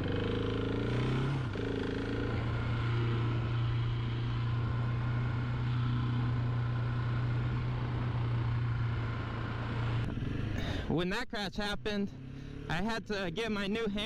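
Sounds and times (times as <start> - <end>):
dirt bike engine droning: 0.0 - 14.0.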